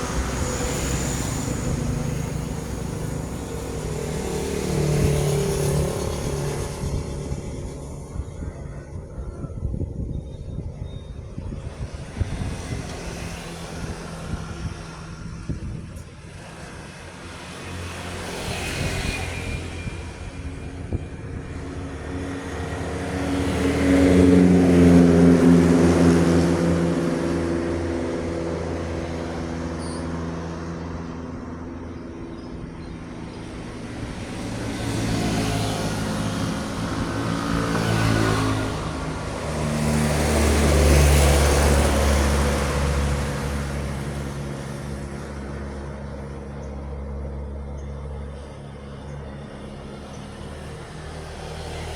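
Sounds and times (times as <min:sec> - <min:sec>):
heavy trucks passing: 0:00.0 - 0:10.1, 0:11.4 - 0:51.9.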